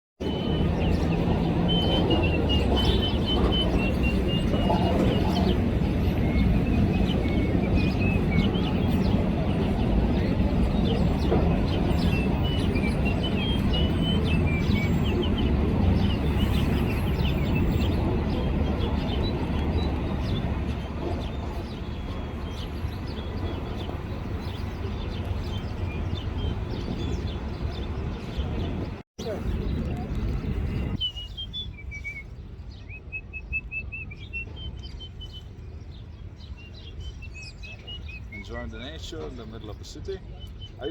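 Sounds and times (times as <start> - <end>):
low city rumble: 0.2 - 40.9
small birds chirping: 0.2 - 40.9.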